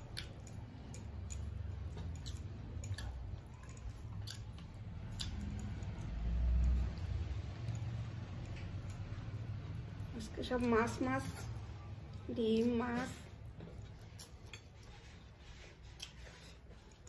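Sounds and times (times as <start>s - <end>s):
chewing and wet squishing: 0.0s - 17.0s.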